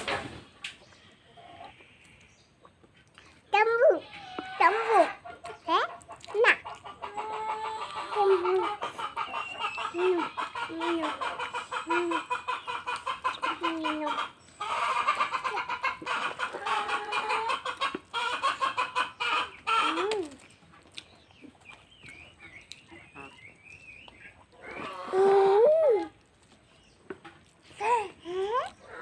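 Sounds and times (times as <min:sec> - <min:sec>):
chickens clucking: 0:00.0 - 0:29.0
hen clucks: 0:00.0 - 0:29.0.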